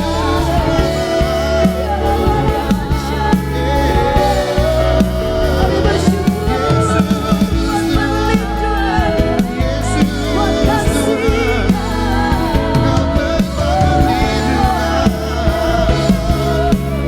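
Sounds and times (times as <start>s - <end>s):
bass: 0.0s - 17.0s
keyboard chords: 0.0s - 17.0s
person singing: 0.0s - 17.0s
steady drum beat: 0.0s - 17.0s.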